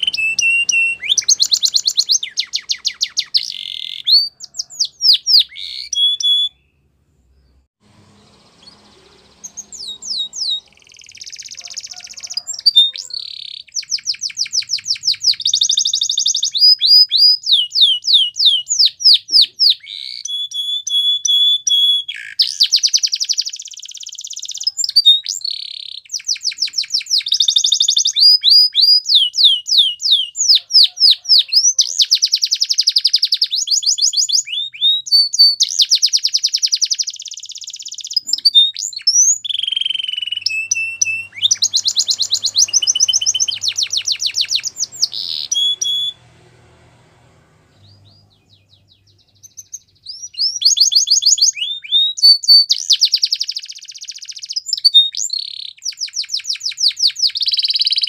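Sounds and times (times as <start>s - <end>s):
canary singing: 0.0s - 46.7s, 47.3s - 58.0s.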